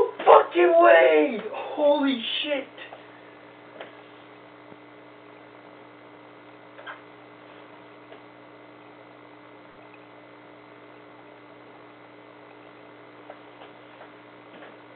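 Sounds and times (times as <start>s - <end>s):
electrical hum: 0.0s - 14.9s.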